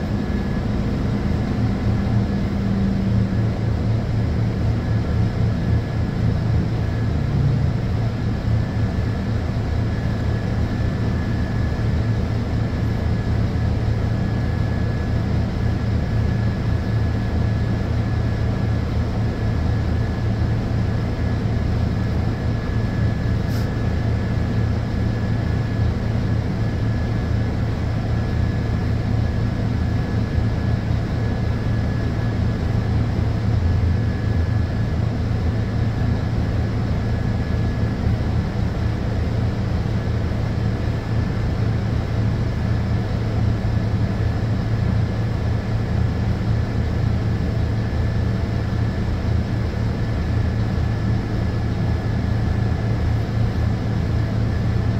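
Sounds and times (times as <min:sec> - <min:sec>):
bus diesel engine idling: 0:00.0 - 0:54.9.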